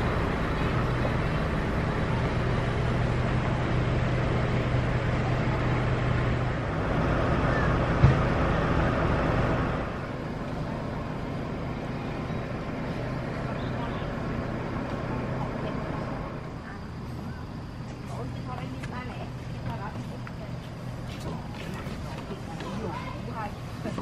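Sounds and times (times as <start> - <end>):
motor engine humming: 0.0 - 24.0.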